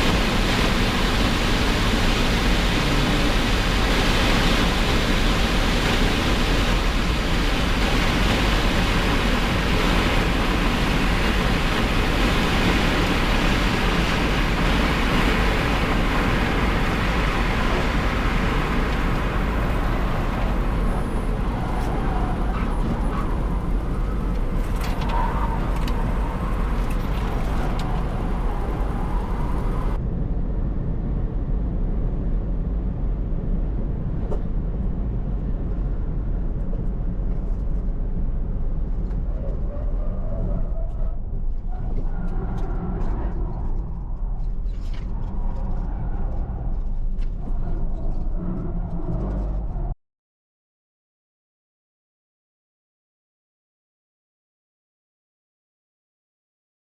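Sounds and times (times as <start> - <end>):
tyre road and wind noise: 0.0 - 50.0.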